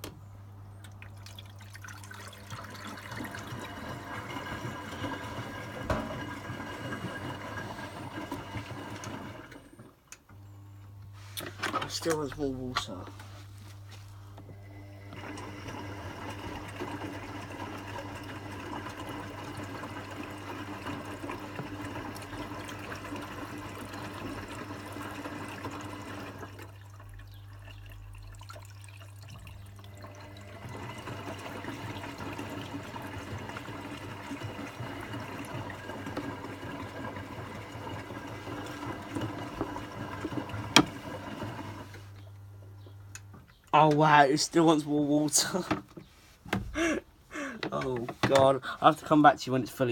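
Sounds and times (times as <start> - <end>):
water rushing into washing machine: 0.8 - 10.2, 14.6 - 42.2, 43.8 - 45.9, 46.5 - 49.9.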